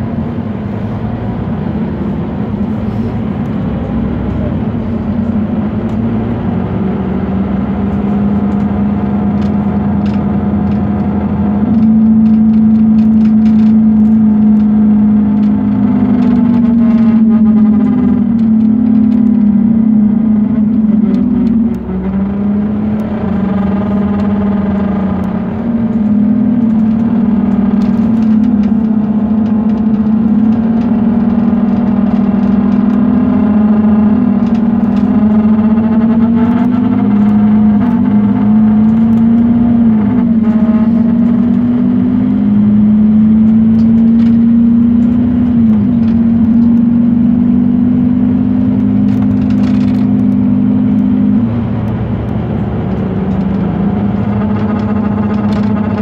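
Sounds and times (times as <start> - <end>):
bus engine droning hum: 0.0 - 56.0.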